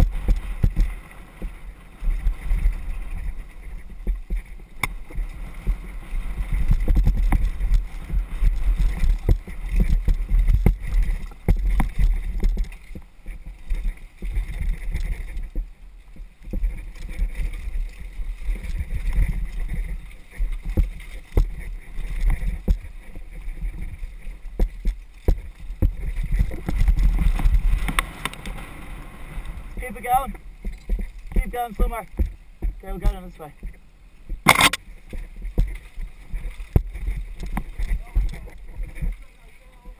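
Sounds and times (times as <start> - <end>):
bike knocks and rattles: 0.0 - 17.7, 18.5 - 28.6, 30.6 - 39.3
bike tyres rumbling on dirt: 0.0 - 39.9
wind buffeting microphone: 0.0 - 39.9.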